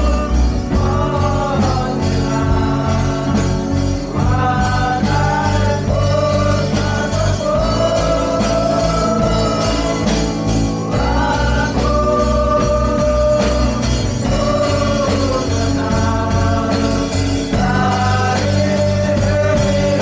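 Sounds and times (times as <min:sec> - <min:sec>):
electric bass guitar: 0:00.0 - 0:20.0
keyboard: 0:00.0 - 0:20.0
young voices singing together: 0:00.0 - 0:20.0.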